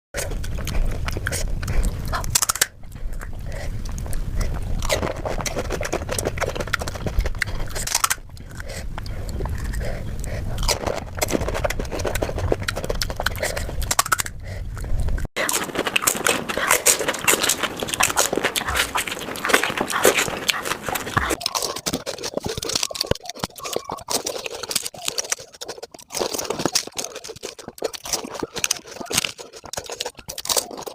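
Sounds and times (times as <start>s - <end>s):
crunching and chewing crisp shells: 0.2s - 30.9s.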